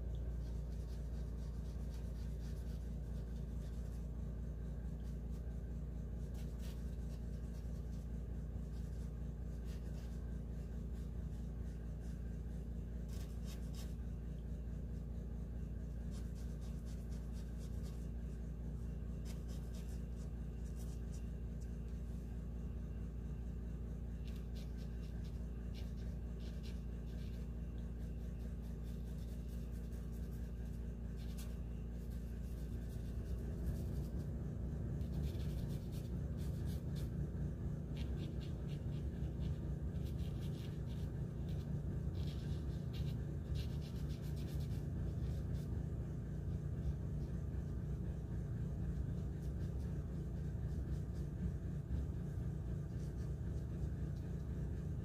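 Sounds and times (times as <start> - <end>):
steady low hum: 0.0 - 55.0
art tool scratching on paper: 0.2 - 55.0.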